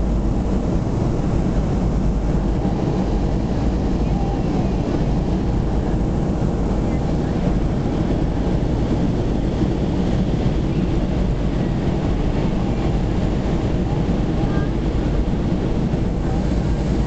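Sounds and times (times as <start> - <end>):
airflow over fuselage: 0.0 - 17.0
airplane cabin engine rumble: 0.0 - 17.0.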